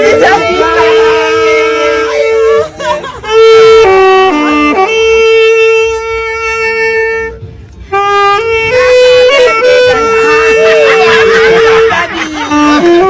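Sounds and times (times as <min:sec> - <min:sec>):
solo wind instrument melody: 0:00.0 - 0:13.0.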